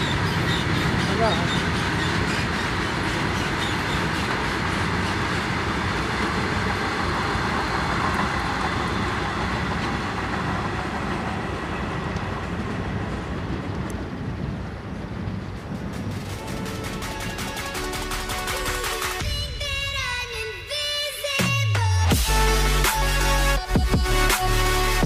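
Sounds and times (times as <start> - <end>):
freight train wheels rumbling: 0.0 - 21.7.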